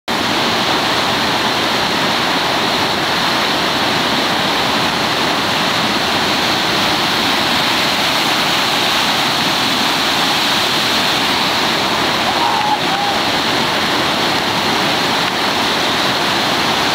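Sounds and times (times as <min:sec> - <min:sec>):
rushing whitewater rapids: 0:00.1 - 0:16.9.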